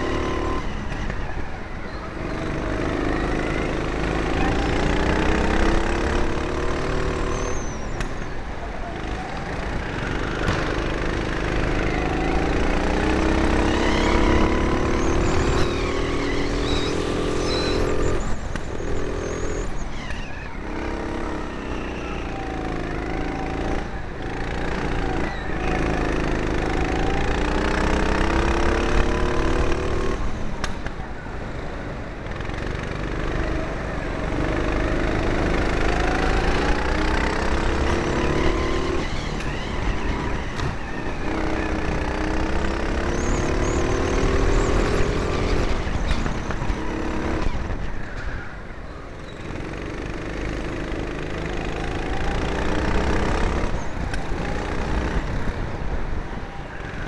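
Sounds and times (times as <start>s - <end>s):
go-kart engine revving: 0.0s - 8.0s, 9.0s - 30.8s, 32.2s - 48.6s, 49.2s - 57.0s.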